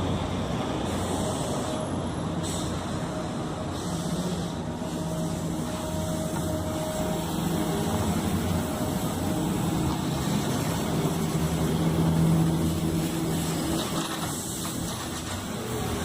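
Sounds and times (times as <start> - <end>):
bus engine humming: 0.0 - 16.0.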